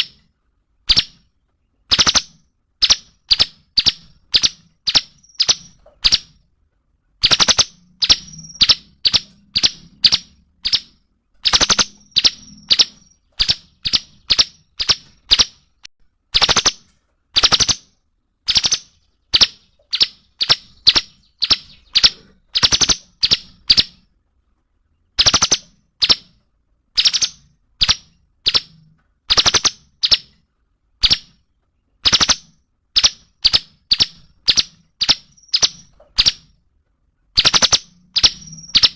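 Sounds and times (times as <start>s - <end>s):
songbird calling in sharp notes: 0.0s - 6.5s, 7.2s - 24.1s, 24.9s - 30.4s, 31.0s - 36.6s, 37.4s - 38.9s.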